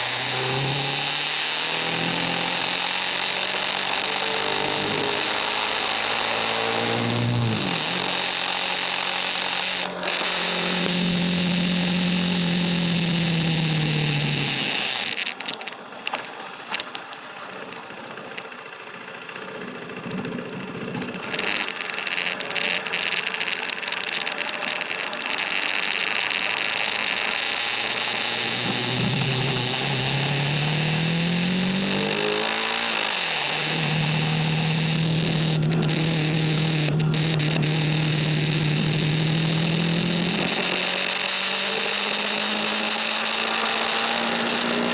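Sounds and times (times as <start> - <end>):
motorcycle engine: 0.0 - 44.9
scattered clicks: 5.6 - 11.5, 12.8 - 44.9.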